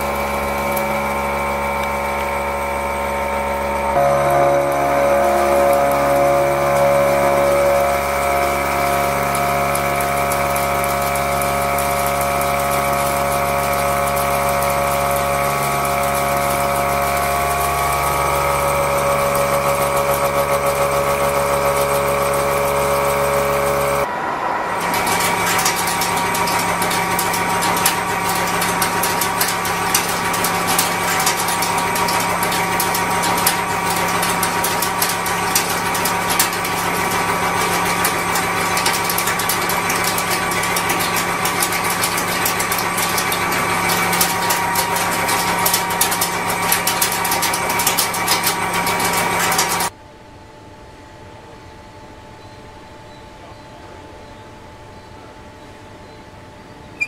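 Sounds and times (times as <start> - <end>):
harsh cutting with rapid clicks: 0.0 - 24.1, 24.8 - 49.9
milling machine whining: 0.0 - 50.0.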